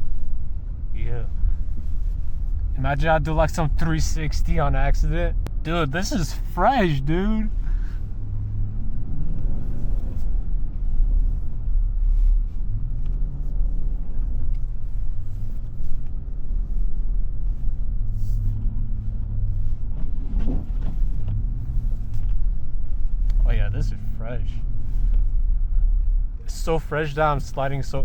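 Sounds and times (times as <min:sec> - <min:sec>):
low rumble: 0:00.0 - 0:27.5.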